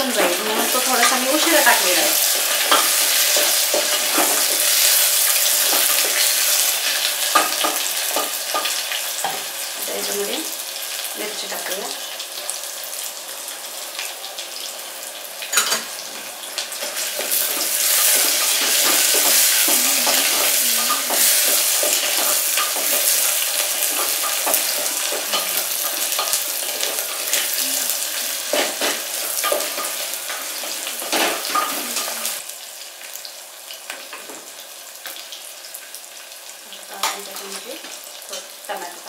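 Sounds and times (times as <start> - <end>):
onions sizzling in hot oil: 0.0 - 39.0.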